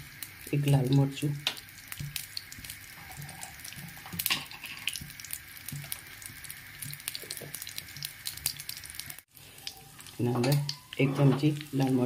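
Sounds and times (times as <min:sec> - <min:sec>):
hot oil sizzling with crackling pops: 0:00.0 - 0:12.0.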